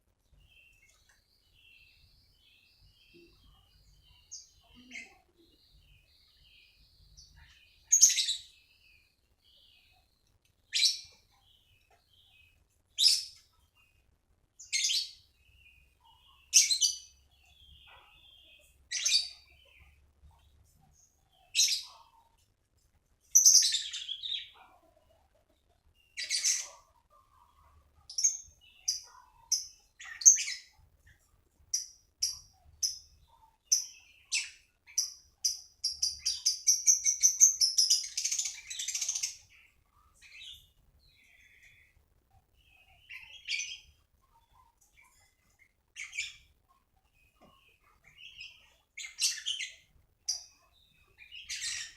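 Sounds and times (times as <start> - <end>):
faint bird chirping: 0.0 - 51.9.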